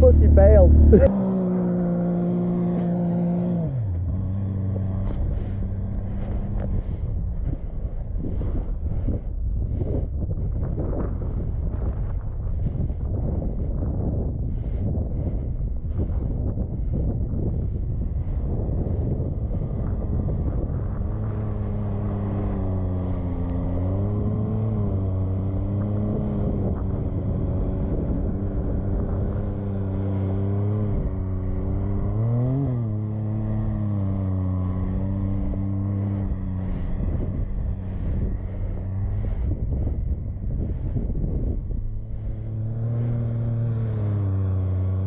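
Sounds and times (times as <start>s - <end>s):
utility vehicle engine revving: 0.0s - 45.0s
wind buffeting microphone: 0.0s - 45.0s.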